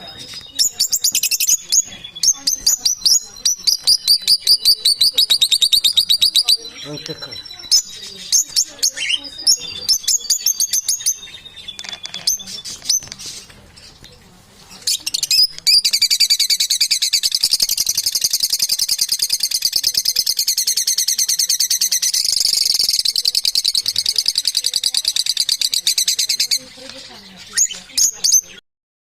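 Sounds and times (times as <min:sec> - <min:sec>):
small birds chirping: 0:00.0 - 0:28.6.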